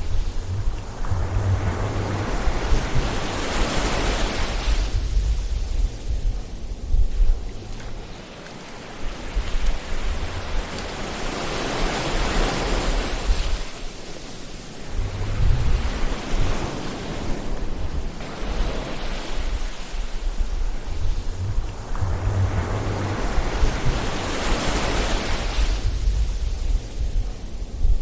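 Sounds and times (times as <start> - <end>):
ocean waves washing ashore: 0.0 - 28.0.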